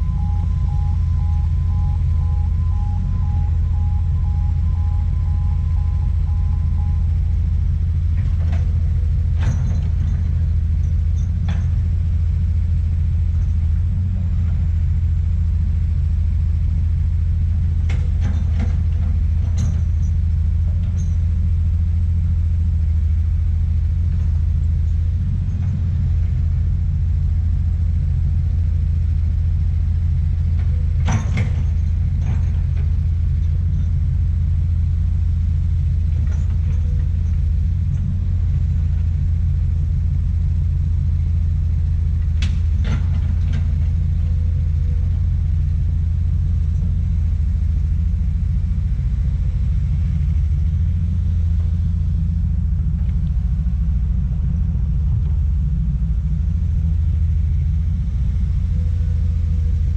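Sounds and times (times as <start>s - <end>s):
excavator diesel engine rumbling: 0.0s - 59.9s.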